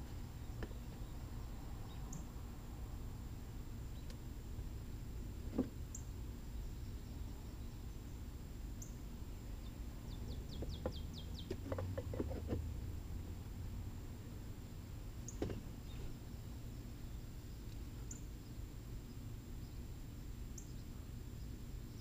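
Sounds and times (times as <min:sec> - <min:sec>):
songbird chirping: 0:00.0 - 0:02.5, 0:03.6 - 0:04.4, 0:05.8 - 0:12.4, 0:14.1 - 0:22.0.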